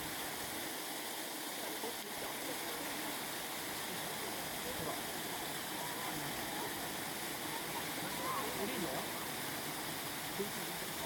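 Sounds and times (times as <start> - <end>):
faint voices: 1.7 - 11.0.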